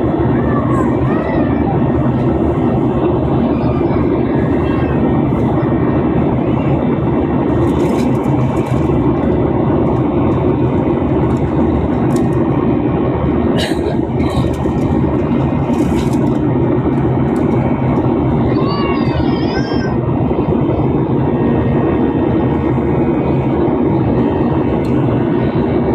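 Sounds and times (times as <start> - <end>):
jet engines droning in cabin: 0.0 - 25.9
rushing airflow: 0.0 - 25.9.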